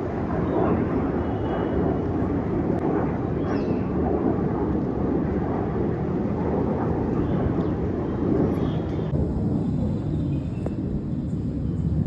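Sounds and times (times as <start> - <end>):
aircraft engine rumble: 0.0 - 12.0.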